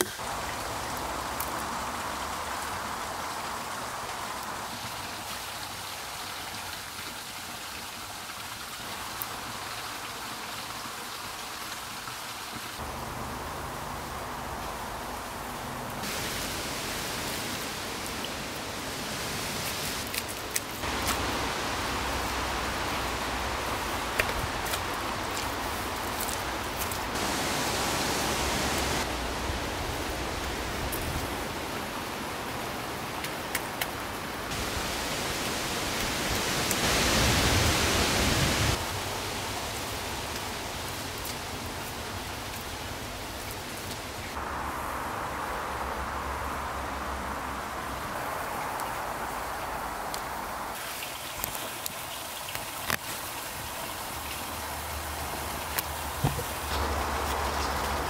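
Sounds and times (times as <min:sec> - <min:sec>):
rushing water-like hiss: 0:00.0 - 0:58.0.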